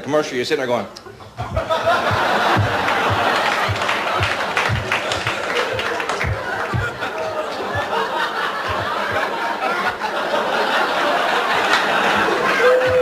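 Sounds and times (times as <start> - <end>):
audience laughing: 1.0 - 13.0.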